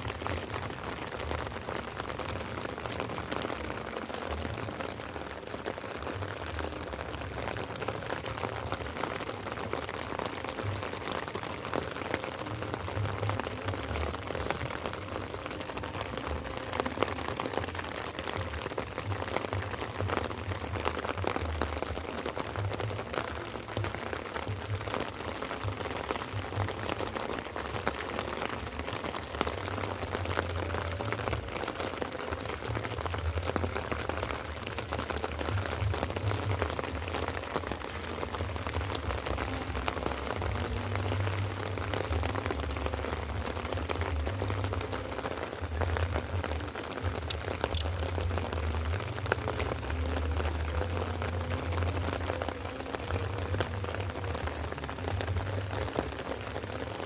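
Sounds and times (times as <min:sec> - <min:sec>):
light rain drops ticking: 0:00.0 - 0:57.0.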